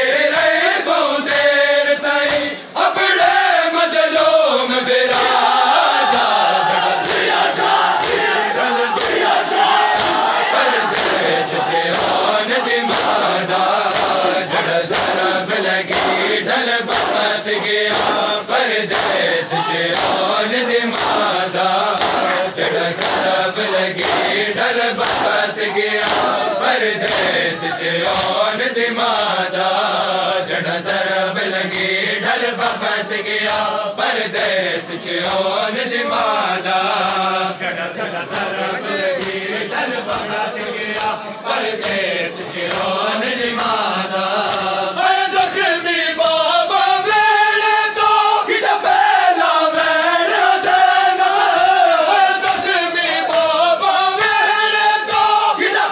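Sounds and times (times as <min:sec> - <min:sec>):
men chanting in unison: 0:00.0 - 0:55.9.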